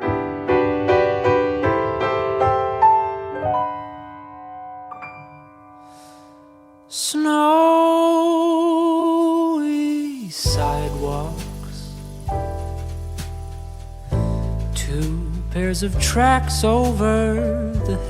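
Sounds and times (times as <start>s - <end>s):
piano notes: 0.0s - 18.0s.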